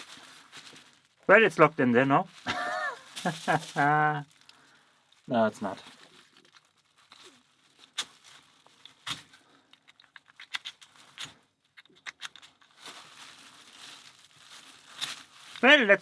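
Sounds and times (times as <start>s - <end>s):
soft rustle of handling: 0.0s - 9.8s, 12.4s - 16.0s.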